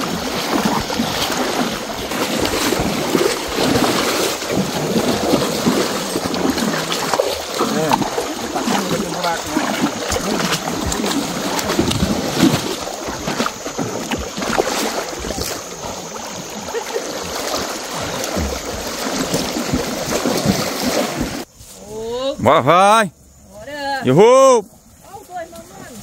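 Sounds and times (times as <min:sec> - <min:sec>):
cattle splashing through water: 0:00.0 - 0:21.5.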